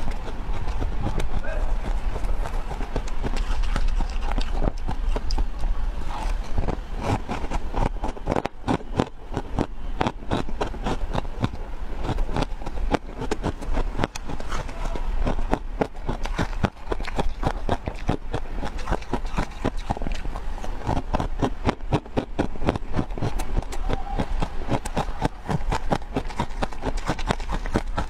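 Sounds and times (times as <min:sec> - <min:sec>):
crunching ice in the mouth: 0:00.0 - 0:28.0.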